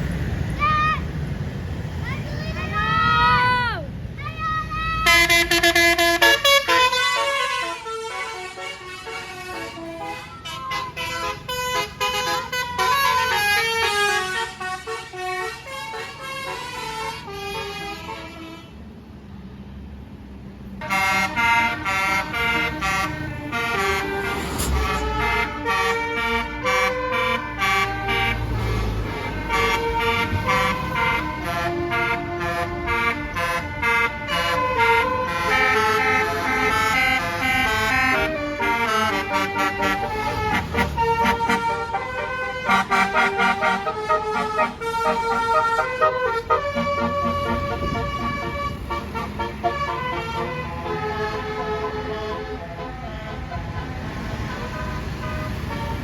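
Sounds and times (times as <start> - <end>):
bus engine rumbling: 0.0 - 56.0
multi-note air horn tune: 5.1 - 18.7, 20.8 - 28.5, 29.4 - 56.0.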